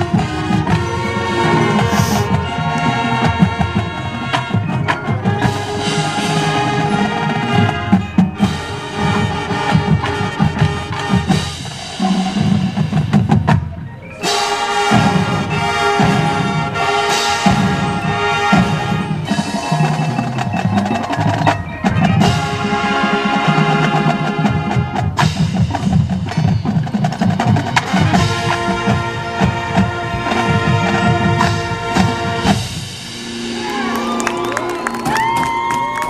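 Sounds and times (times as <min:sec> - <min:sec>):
sharp percussion strikes: 0:00.0 - 0:30.0
drums: 0:00.0 - 0:36.0
mallet percussion: 0:00.0 - 0:36.0
wind chords: 0:00.0 - 0:36.0.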